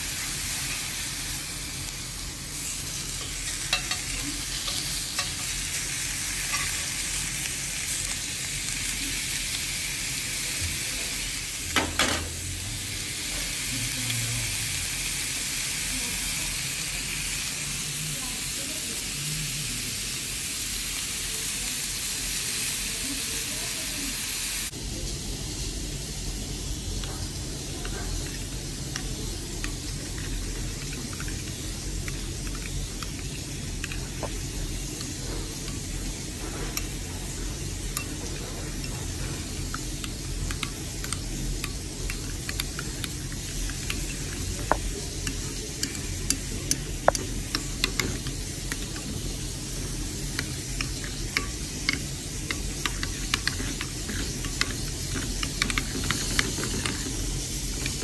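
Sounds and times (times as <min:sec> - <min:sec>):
steady sizzling hiss: 0:00.0 - 0:58.0.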